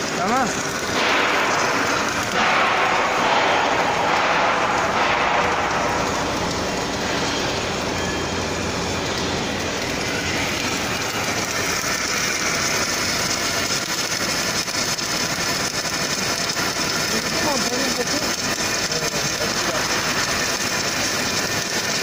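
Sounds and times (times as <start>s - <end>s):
welding arc hissing: 0.0s - 22.0s.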